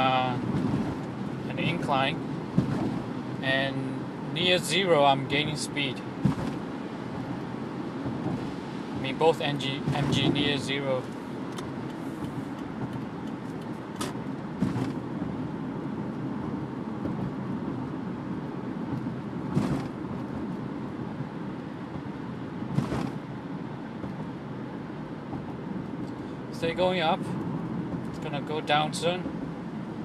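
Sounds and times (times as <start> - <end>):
road and tyre noise: 0.0 - 30.0.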